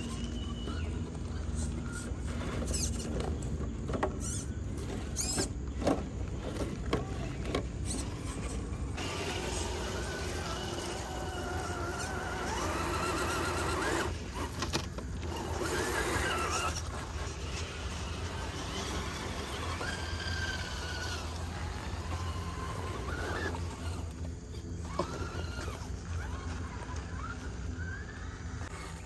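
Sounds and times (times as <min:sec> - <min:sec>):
electric motor and gears whining: 0:00.0 - 0:29.0.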